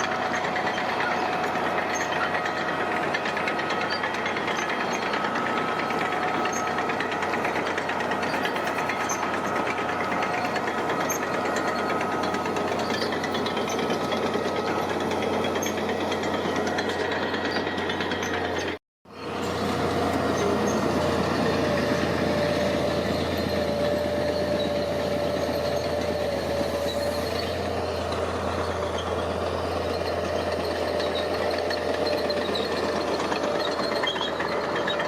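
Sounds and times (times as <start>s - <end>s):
heavy machinery engine whining: 0.0s - 35.0s.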